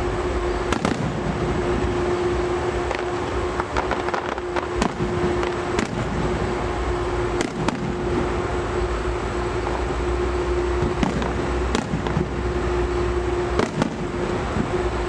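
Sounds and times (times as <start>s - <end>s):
steady low hum: 0.0s - 15.0s
fireworks bangs: 0.3s - 15.0s
fireworks crackling pops: 0.6s - 15.0s.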